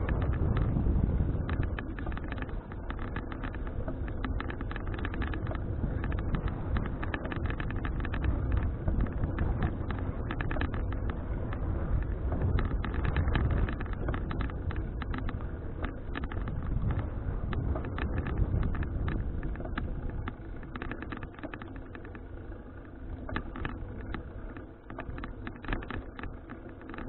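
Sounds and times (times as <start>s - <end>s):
clicking and rattling: 0.0s - 0.8s, 1.4s - 22.4s, 23.2s - 27.0s
low rumble: 0.0s - 26.5s
wind buffeting microphone: 0.0s - 27.0s.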